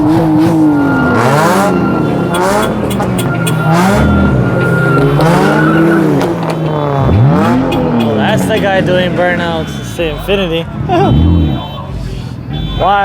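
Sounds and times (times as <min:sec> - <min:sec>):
car engine revving hard: 0:00.0 - 0:09.8, 0:10.7 - 0:11.7
tyres squealing on pavement: 0:00.0 - 0:13.0.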